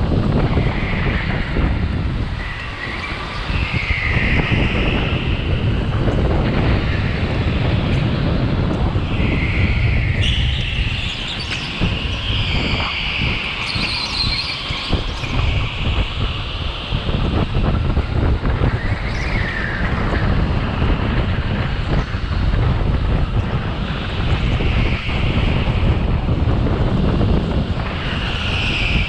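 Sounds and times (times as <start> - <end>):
high whine: 0.0 - 29.0
wind buffeting microphone: 0.0 - 29.0.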